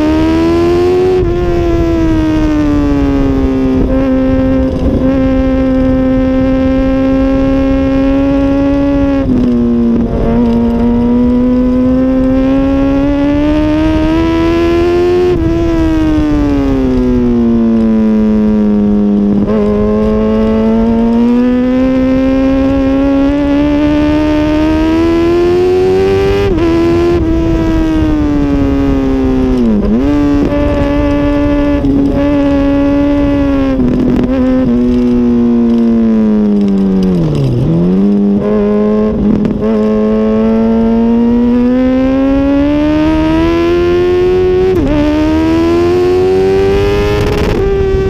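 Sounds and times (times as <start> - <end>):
motorcycle engine at high revs: 0.0 - 48.0.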